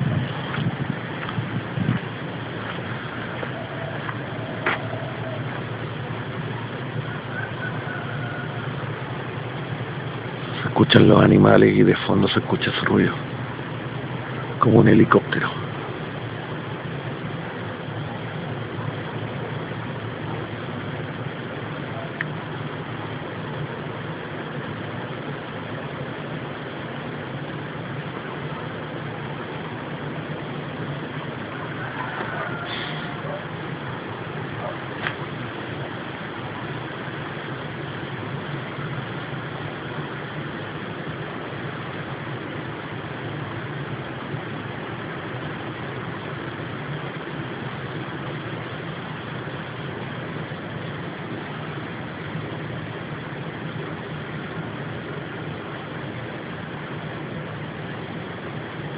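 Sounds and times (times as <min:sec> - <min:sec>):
constant hiss: 0:00.0 - 0:58.9
low droning hum: 0:00.0 - 0:58.9.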